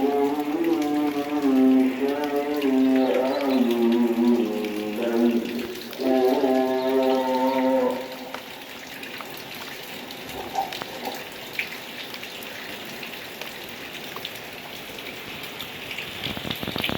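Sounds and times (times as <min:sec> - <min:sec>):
raindrops pattering: 0:00.0 - 0:16.9
steady rain falling: 0:00.0 - 0:16.9.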